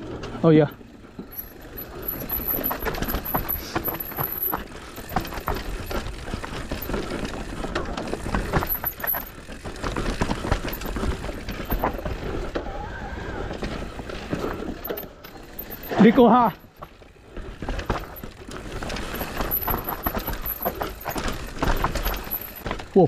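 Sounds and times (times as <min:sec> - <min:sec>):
bike rattling and clattering: 0:00.0 - 0:23.0
bike tyres on dirt trail: 0:00.0 - 0:23.0.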